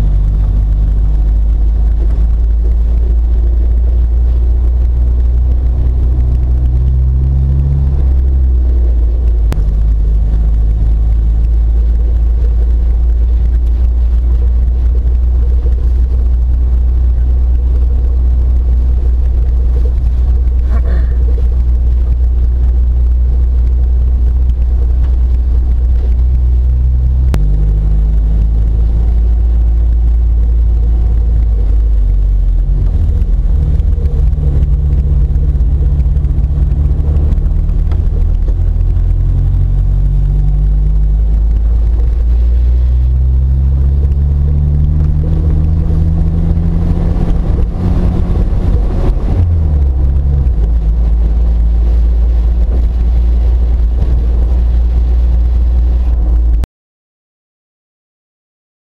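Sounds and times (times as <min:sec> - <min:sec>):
car engine rumbling while driving: 0:00.0 - 0:56.7.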